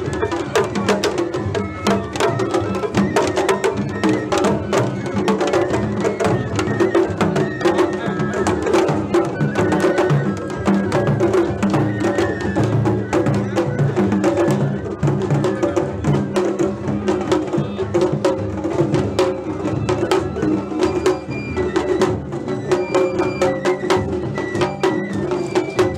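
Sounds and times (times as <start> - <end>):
crowd chatter: 0.0 - 25.9
taiko drums: 0.0 - 25.9.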